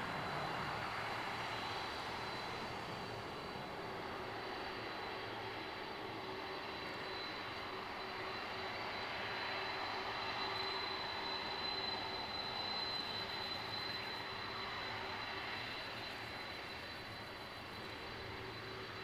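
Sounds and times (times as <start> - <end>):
jet engines running with high whine: 0.0 - 19.0.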